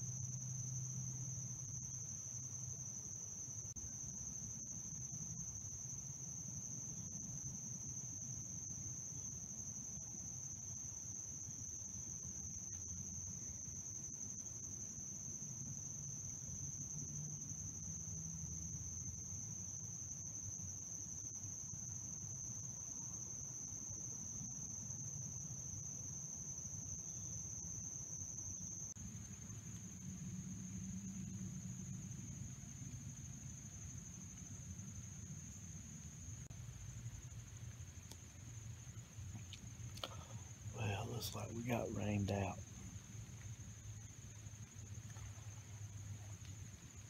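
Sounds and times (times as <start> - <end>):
crickets trilling: 0.0 - 47.0.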